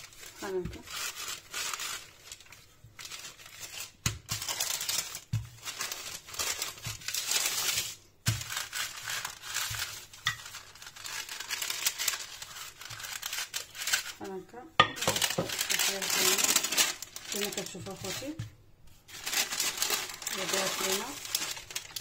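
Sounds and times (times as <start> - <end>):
baking paper crinkling: 0.0 - 22.0.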